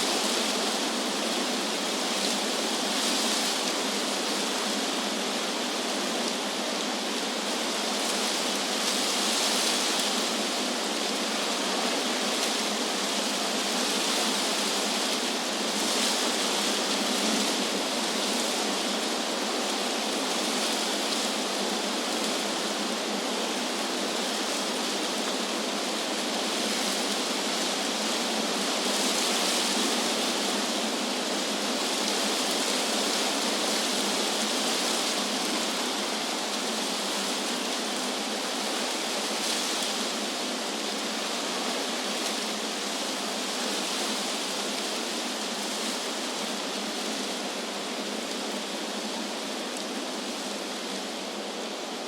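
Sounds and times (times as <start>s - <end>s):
wind rustling tree leaves: 0.0s - 52.0s.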